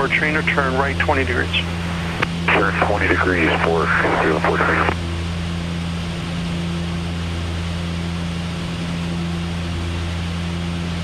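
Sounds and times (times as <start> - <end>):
turboprop aircraft engines droning: 0.0 - 11.0.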